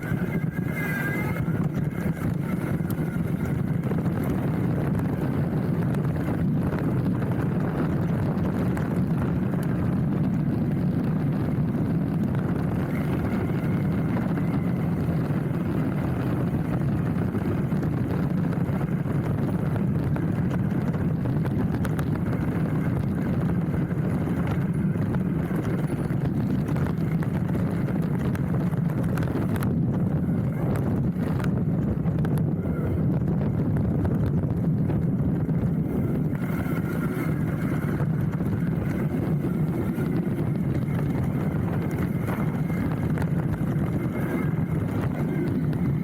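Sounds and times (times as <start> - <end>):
bike tyres rumbling on dirt: 0.0 - 46.0.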